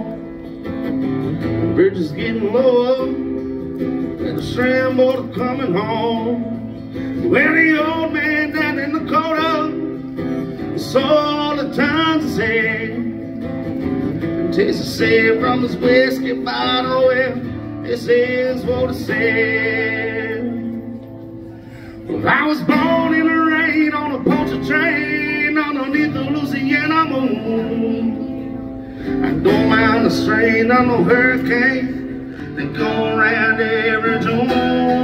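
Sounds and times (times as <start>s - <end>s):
acoustic guitar strumming: 0.0s - 35.0s
man singing: 1.6s - 3.4s, 4.2s - 13.5s, 14.4s - 21.0s, 22.0s - 35.0s.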